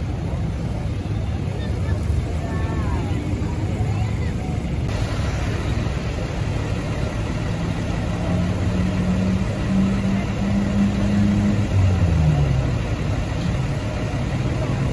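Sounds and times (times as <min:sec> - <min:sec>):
vehicle engine under load: 0:00.0 - 0:14.9.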